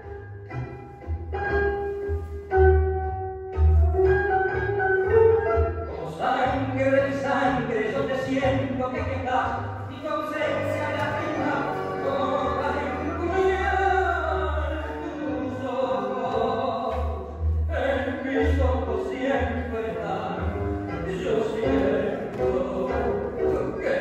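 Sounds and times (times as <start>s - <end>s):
instrumental accompaniment with bass: 0.0s - 24.0s
person singing tango song: 0.0s - 24.0s.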